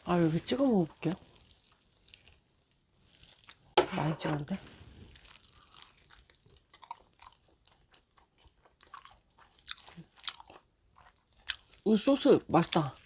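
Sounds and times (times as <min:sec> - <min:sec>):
chewing fried chicken crunches: 0:01.1 - 0:03.8, 0:05.1 - 0:13.0.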